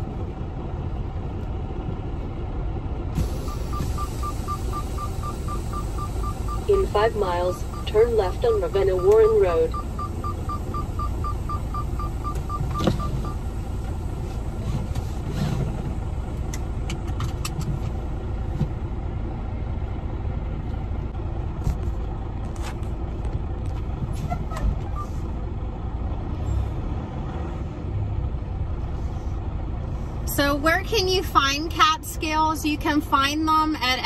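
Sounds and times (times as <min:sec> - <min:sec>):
diesel engine rumble: 0:00.0 - 0:34.0.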